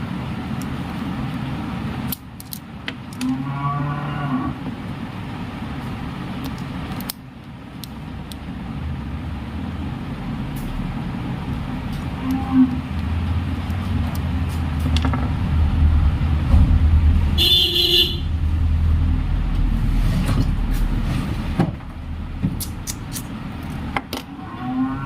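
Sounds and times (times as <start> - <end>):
vehicle engine rumble: 4.5 - 25.0.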